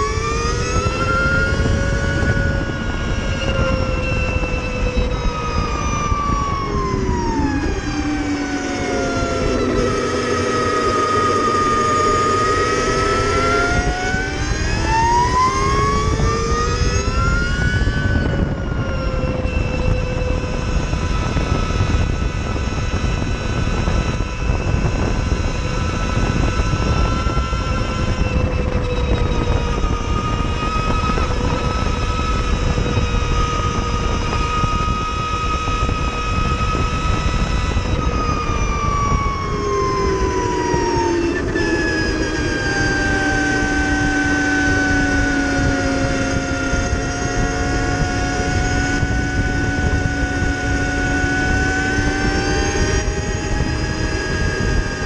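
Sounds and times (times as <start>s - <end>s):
electric motorcycle motor whine: 0.0s - 55.0s
wind noise: 0.0s - 55.0s.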